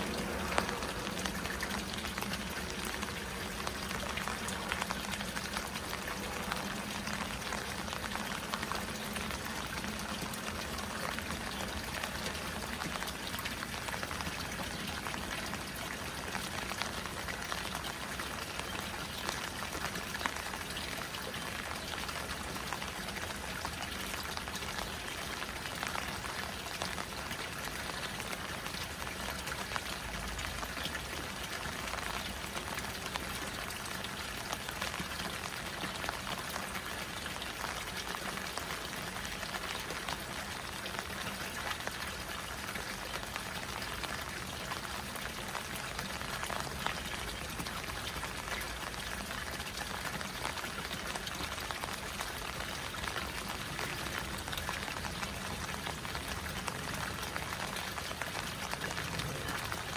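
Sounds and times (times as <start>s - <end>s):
rain falling on water: 0.0s - 59.9s
water pouring into pond: 0.0s - 59.9s.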